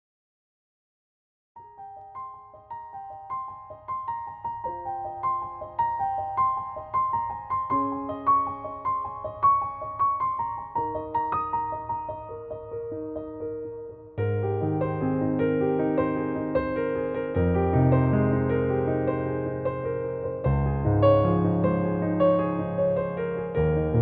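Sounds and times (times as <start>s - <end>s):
gentle piano melody: 1.6s - 24.0s.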